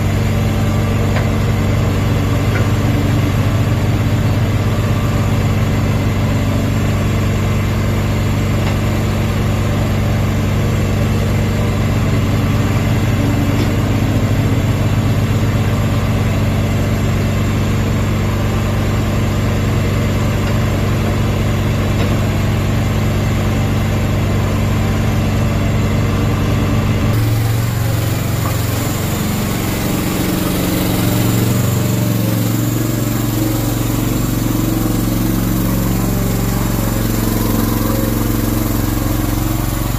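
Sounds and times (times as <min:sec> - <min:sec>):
mini excavator diesel engine: 0:00.0 - 0:39.9
tracked dumper engine: 0:00.0 - 0:39.9.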